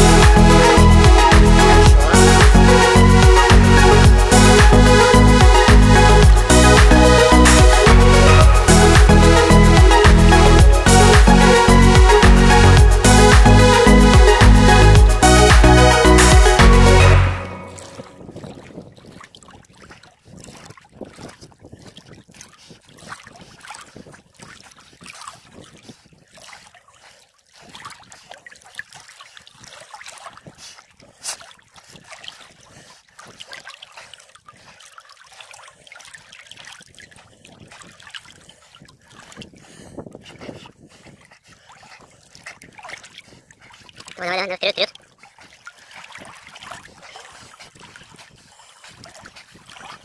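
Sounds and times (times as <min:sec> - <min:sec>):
water lapping: 0:00.0 - 0:50.0
water splashing from swimming: 0:00.0 - 0:50.0.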